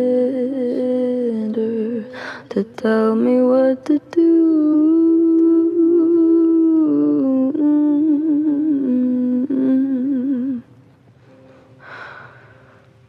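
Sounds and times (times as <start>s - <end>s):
woman humming wordless melody: 0.0s - 10.7s.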